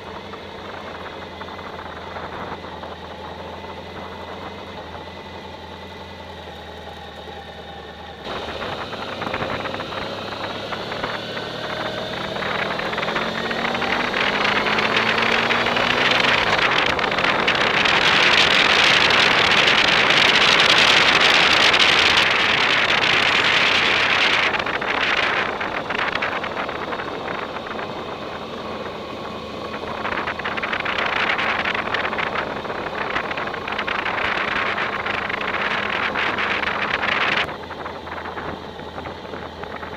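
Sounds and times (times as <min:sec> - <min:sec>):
wind rushing on microphone: 0:00.0 - 0:05.2, 0:08.2 - 0:39.9
motorcycle engine accelerating: 0:00.0 - 0:39.9.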